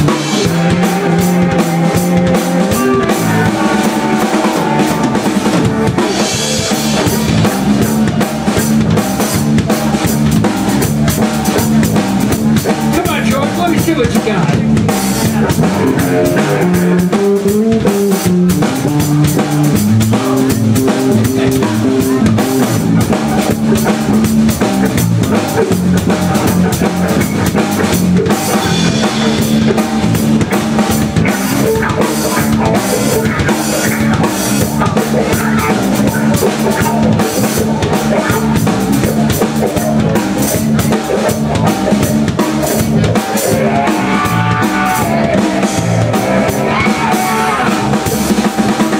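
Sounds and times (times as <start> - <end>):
bass guitar: 0.0 - 48.9
drum kit beat: 0.0 - 48.9
electric guitars: 0.0 - 48.9.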